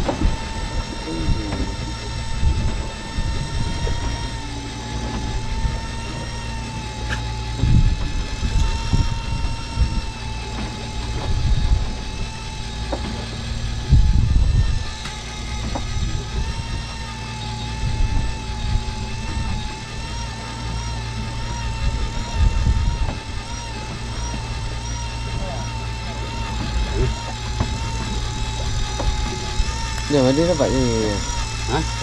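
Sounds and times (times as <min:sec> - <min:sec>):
boat engine humming: 0:00.0 - 0:32.0
short low rumbles: 0:00.0 - 0:32.0.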